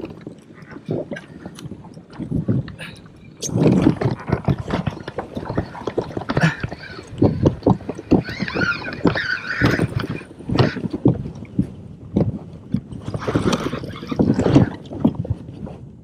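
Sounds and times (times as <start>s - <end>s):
water sloshing against kayak: 0.0s - 16.0s.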